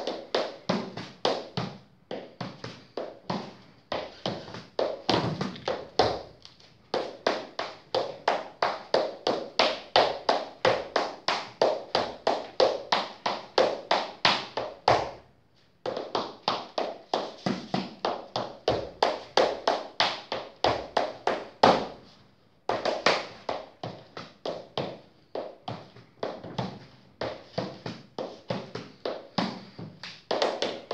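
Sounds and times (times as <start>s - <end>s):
shoes tapping on hard floor: 0.0s - 30.9s.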